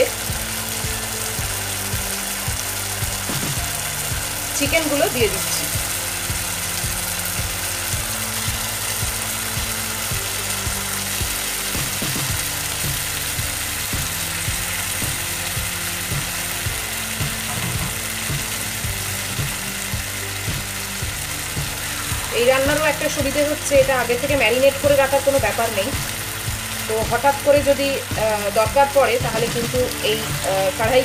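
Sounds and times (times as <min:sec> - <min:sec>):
background music: 0:00.0 - 0:31.0
chicken sizzling in oil: 0:00.0 - 0:31.0.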